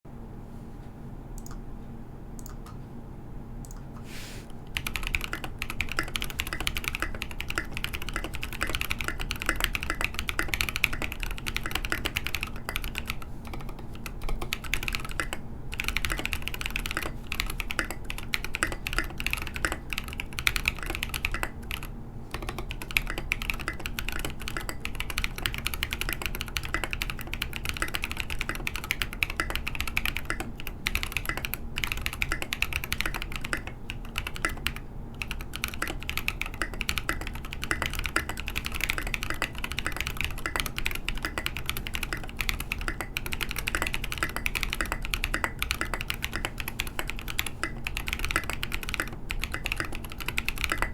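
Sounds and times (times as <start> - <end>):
typing on mechanical keyboard: 4.7 - 50.9.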